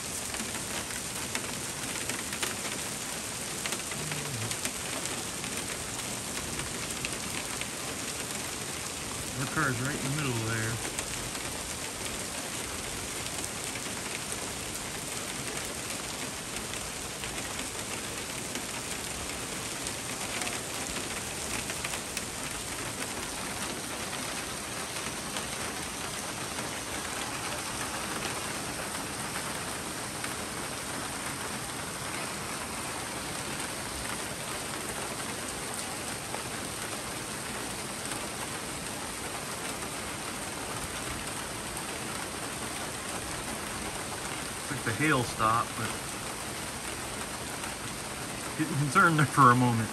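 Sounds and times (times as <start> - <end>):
hail and heavy rain: 0.0 - 49.9.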